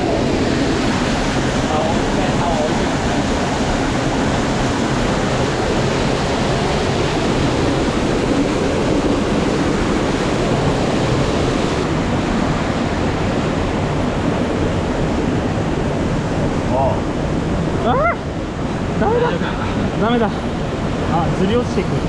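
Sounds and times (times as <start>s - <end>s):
stream water rushing over rocks: 0.0s - 22.0s.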